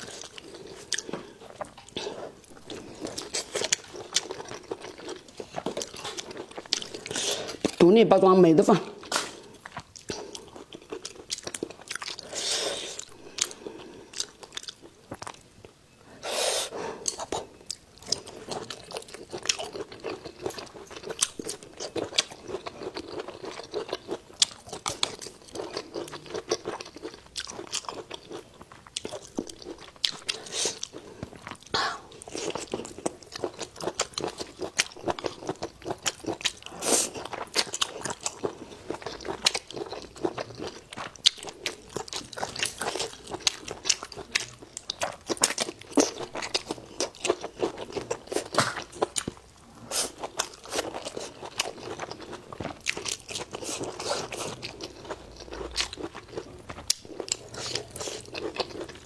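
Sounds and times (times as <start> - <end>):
chewing and crunching food: 0.0 - 8.0, 9.0 - 15.8, 16.8 - 59.0.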